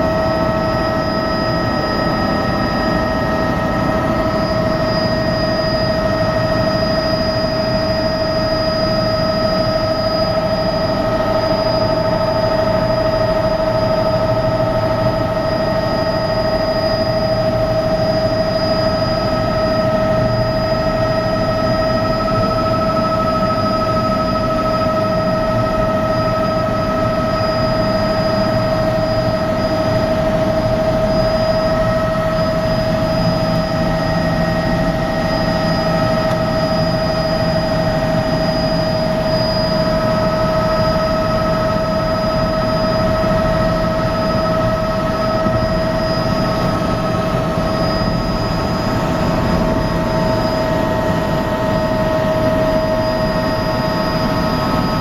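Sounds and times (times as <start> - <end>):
constant whine: 0.0 - 55.0
helicopter engine and rotor drone: 0.0 - 55.0.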